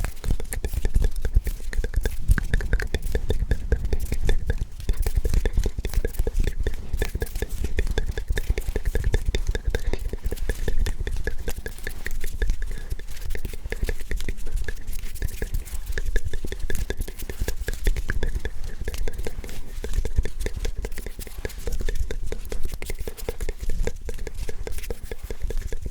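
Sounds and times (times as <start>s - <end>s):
hand clicks and rustles on microphone: 0.0s - 25.9s
person whispering: 0.0s - 25.9s.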